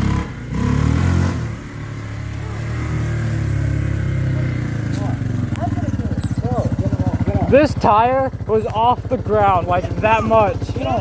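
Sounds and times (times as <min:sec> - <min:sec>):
quad engine revving: 0:00.0 - 0:11.0.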